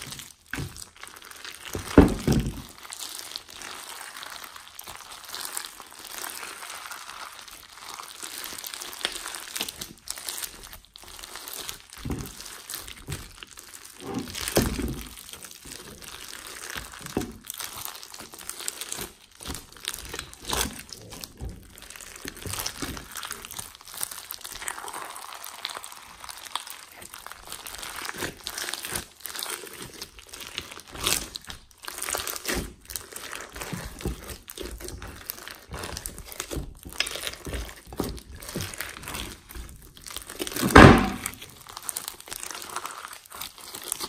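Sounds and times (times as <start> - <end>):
foam beads crackling and popping: 0.0 - 44.0
slime squeezed by hand: 0.0 - 44.0.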